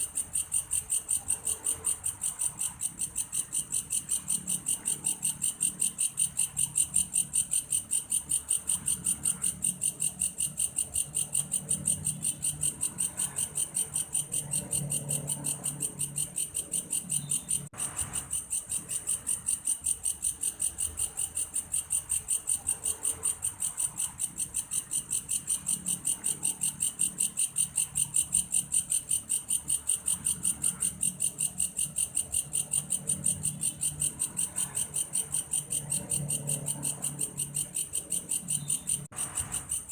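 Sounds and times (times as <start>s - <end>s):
grasshopper chirring: 0.0s - 39.9s.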